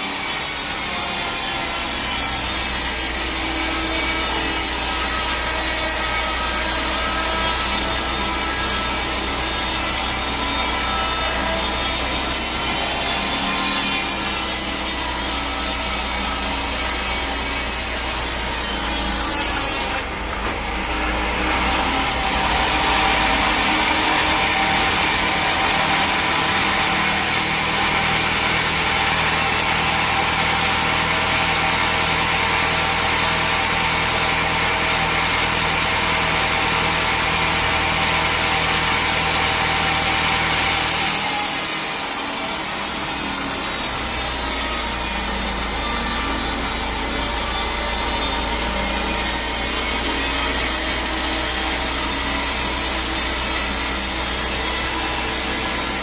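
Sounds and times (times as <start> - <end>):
sawmill saw cutting log: 0.0 - 56.0.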